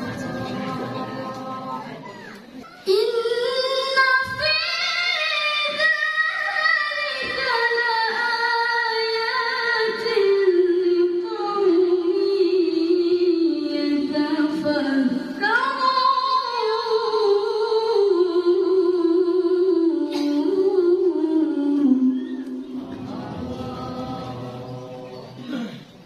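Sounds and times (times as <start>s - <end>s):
woman reciting melodically: 0.0s - 25.8s.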